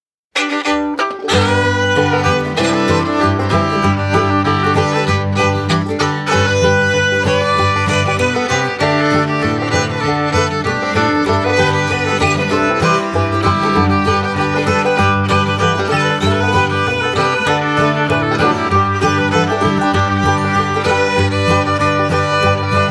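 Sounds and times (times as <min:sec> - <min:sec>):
fiddle: 0:00.3 - 0:22.9
upbeat bluegrass tune: 0:00.3 - 0:22.9
strummed guitar: 0:00.4 - 0:22.9.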